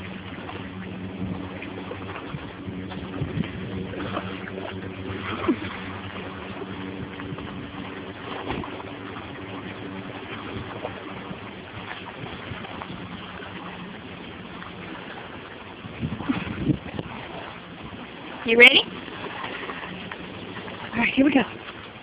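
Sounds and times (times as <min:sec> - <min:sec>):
creek water flowing: 0:00.0 - 0:22.0
low hum: 0:00.0 - 0:22.0.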